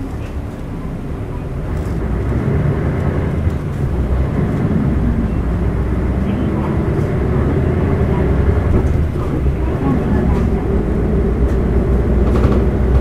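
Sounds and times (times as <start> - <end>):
bus diesel engine from inside: 0.0 - 13.0.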